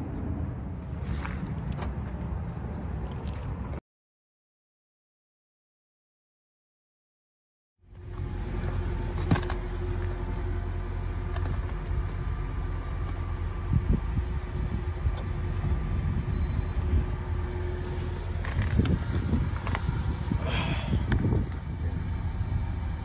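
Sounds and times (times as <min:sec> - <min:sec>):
steady low rumble: 0:00.0 - 0:03.8, 0:07.8 - 0:23.0.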